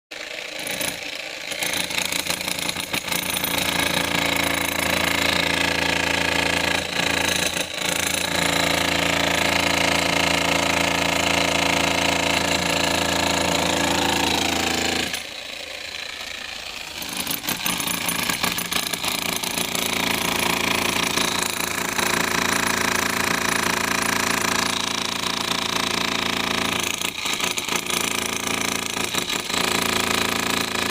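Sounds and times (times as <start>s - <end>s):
demolition hammer breaking concrete: 0.2s - 15.3s, 16.8s - 30.9s.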